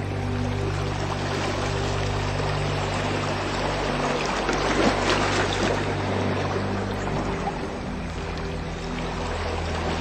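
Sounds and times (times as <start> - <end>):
ambient drone music: 0.0 - 10.0
flowing trickling water: 0.0 - 10.0.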